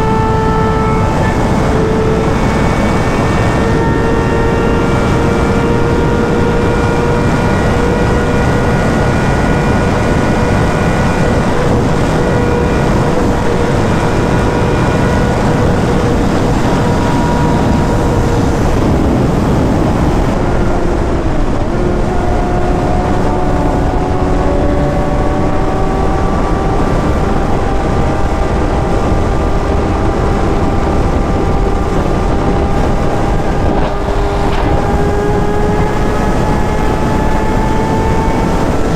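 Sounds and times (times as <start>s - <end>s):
heavy wind noise: 0.0s - 38.9s
motorcycle engine at speed: 0.0s - 38.9s.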